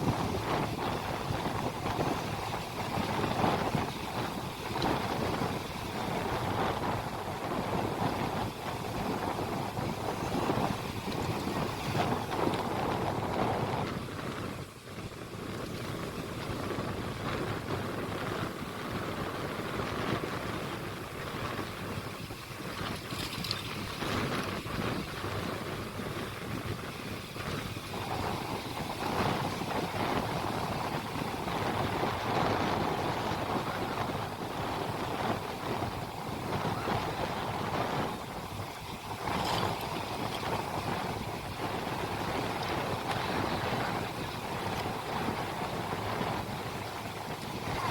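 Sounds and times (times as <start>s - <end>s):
boat moving over sea: 0.0s - 47.9s
wind buffeting microphone: 0.0s - 47.9s.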